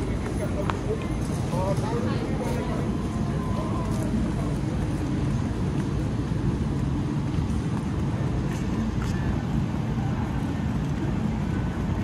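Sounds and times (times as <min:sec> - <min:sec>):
traffic rumble: 0:00.0 - 0:12.0
wind buffeting microphone: 0:00.0 - 0:12.0.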